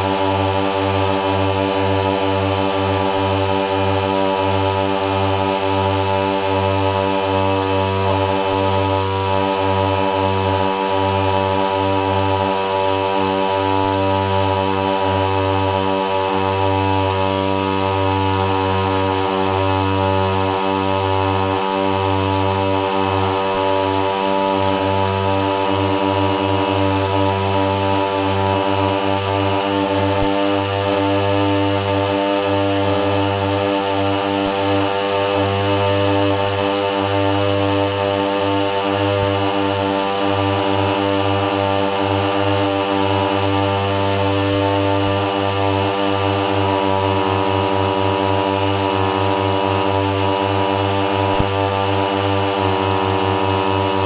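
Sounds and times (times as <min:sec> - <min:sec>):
brush cutter engines droning: 0:00.0 - 0:54.0.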